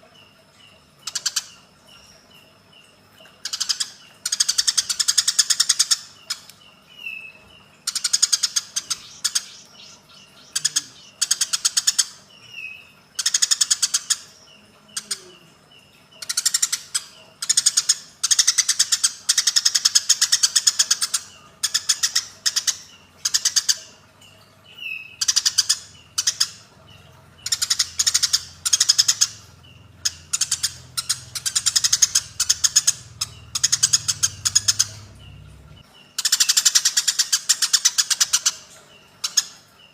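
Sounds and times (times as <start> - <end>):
sparrows chattering chirps: 0.0 - 39.9.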